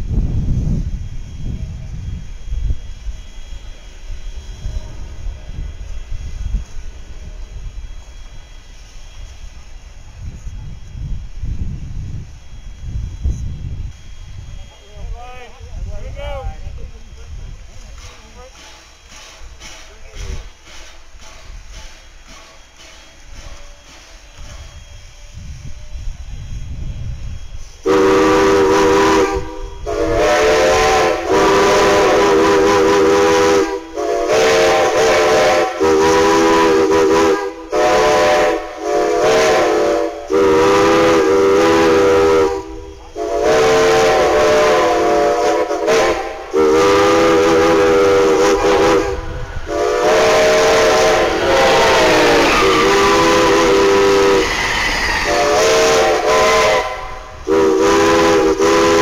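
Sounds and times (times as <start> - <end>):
steam locomotive chime whistles: 0.6 - 15.5, 16.3 - 59.0.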